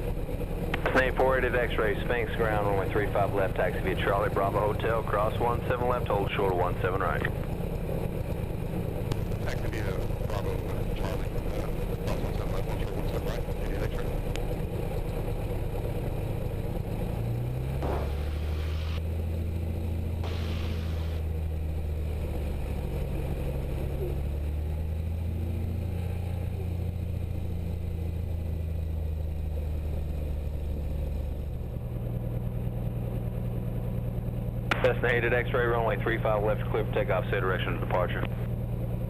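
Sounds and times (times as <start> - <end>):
propeller plane engine running: 0.0 - 39.0.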